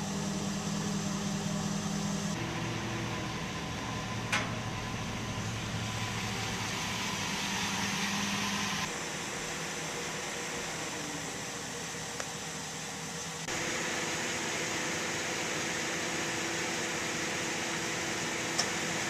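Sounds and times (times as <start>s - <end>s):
mechanical hum and hiss: 0.0s - 19.0s.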